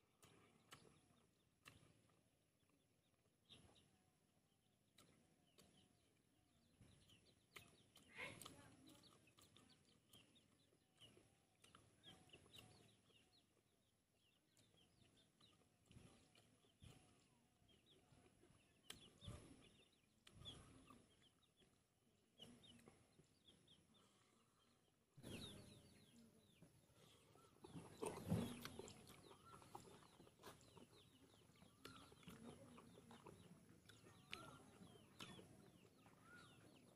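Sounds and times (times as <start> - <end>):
soft slurps and chews: 0.0 - 36.9
faint bird chirps: 4.9 - 36.9.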